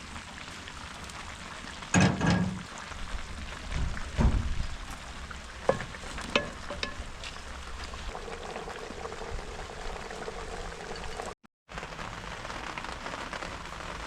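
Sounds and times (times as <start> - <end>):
food frying in a pot: 0.0 - 14.0
rain falling: 0.0 - 14.0.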